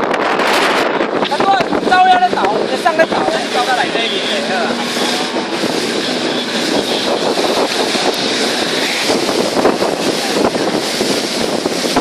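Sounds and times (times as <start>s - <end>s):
rush of water: 0.0s - 12.0s
wind buffeting microphone: 0.0s - 12.0s.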